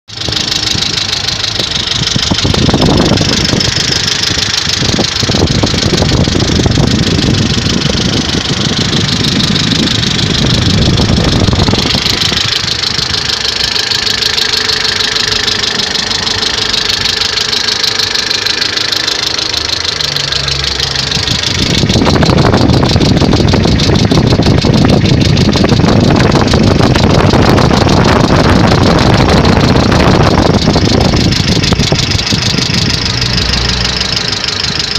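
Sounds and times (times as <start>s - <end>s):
rapid engine knocking: 0.0s - 34.9s
petrol engine running: 0.1s - 34.9s.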